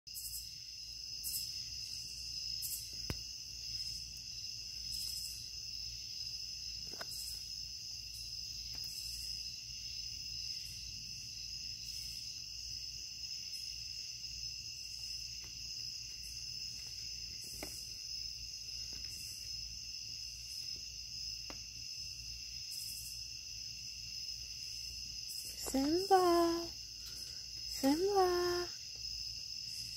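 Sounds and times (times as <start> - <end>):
crickets trilling: 0.1 - 29.9.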